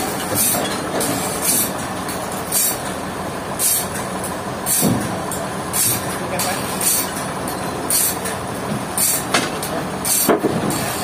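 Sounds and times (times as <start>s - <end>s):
sawmill machinery running: 0.0s - 11.0s.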